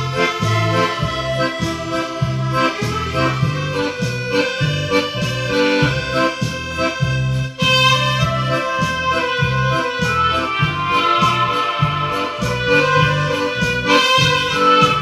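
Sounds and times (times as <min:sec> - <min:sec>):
accordion tune: 0:00.0 - 0:15.0
pulsing bass and chords: 0:00.0 - 0:15.0.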